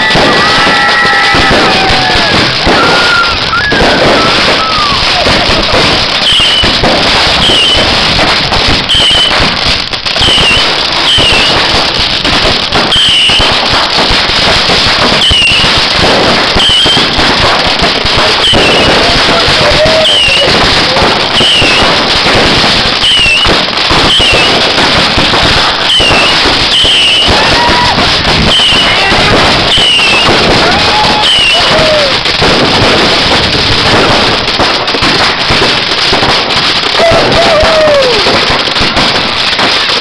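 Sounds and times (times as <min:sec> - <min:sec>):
fireworks crackling and banging: 0:00.0 - 0:40.0.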